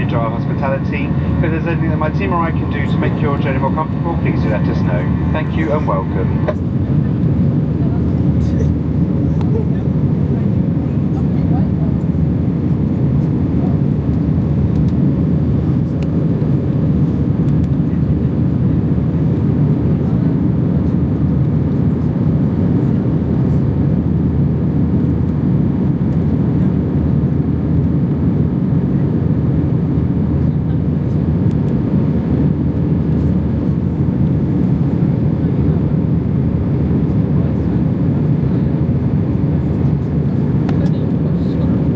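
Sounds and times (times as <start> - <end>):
airflow and engine rush: 0.0 - 41.9
airplane cabin noise: 0.0 - 41.9.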